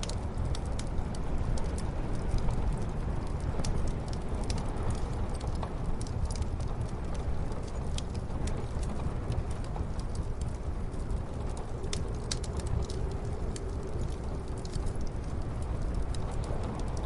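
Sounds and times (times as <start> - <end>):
muffled snowstorm wind: 0.0 - 17.0
wood fire crackling: 0.0 - 17.0.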